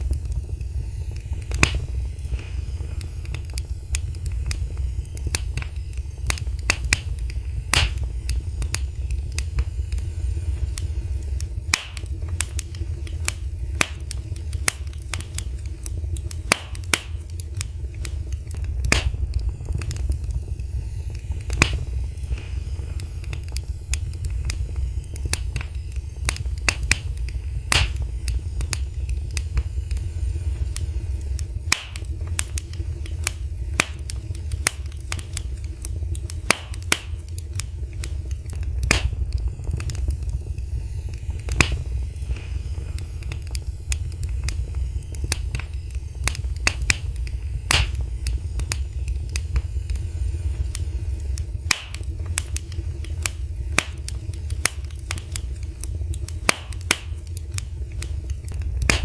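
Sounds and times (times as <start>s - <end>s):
loud fire pops: 0.0s - 59.0s
low rumble: 0.0s - 59.0s
wood fire crackling: 0.0s - 59.0s.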